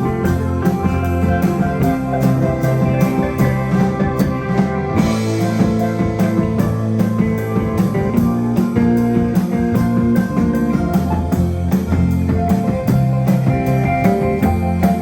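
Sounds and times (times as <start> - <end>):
bass: 0.0 - 15.0
drum kit beat: 0.0 - 15.0
guitar: 0.0 - 15.0.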